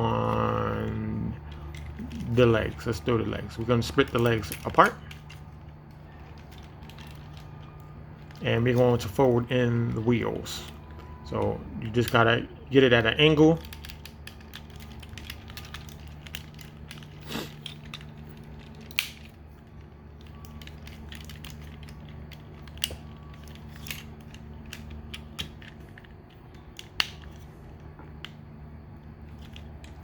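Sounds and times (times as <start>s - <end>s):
steady low hum: 0.0s - 30.0s
plastic toy joints clicking: 0.2s - 27.5s.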